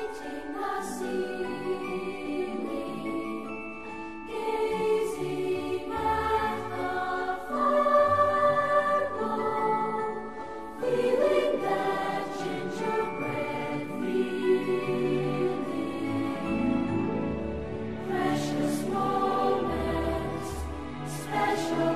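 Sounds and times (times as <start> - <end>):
choir singing sustained chords: 0.0 - 21.9.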